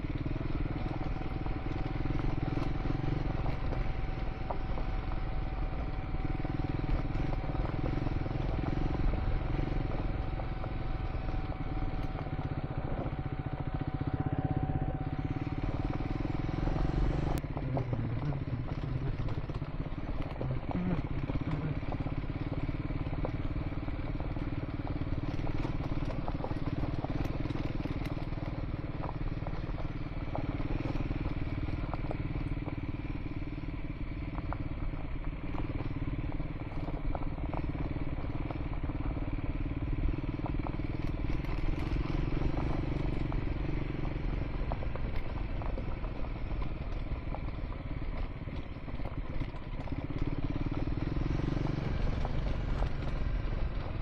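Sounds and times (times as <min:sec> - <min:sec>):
motorcycle engine running: 0:00.0 - 0:54.0
stones crackling under tyres: 0:00.0 - 0:54.0.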